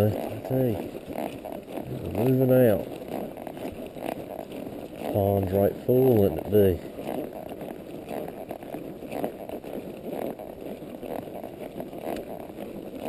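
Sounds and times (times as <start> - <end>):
horse walking: 0.0 - 13.0
soft hoof footfalls: 0.0 - 13.0
steady rustling: 0.0 - 13.0.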